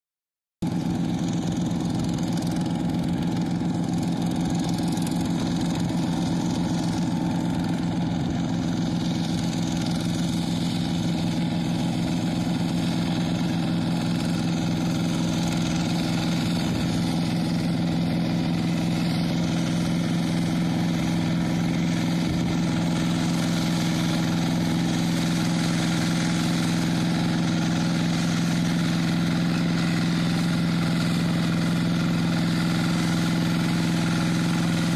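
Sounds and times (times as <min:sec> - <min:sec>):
diesel tractor engine running: 0:00.6 - 0:34.9.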